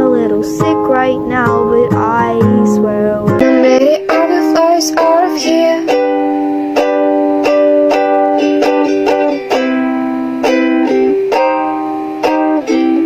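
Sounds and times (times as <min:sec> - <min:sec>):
strummed acoustic string instrument: 0:00.0 - 0:13.0.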